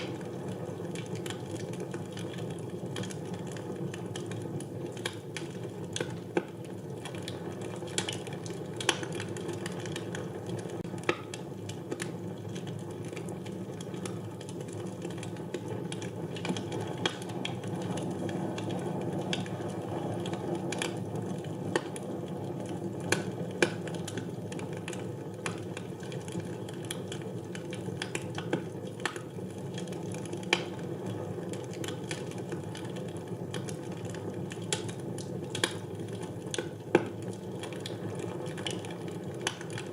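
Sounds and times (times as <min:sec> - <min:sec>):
wood fire burning: 0:00.0 - 0:39.9.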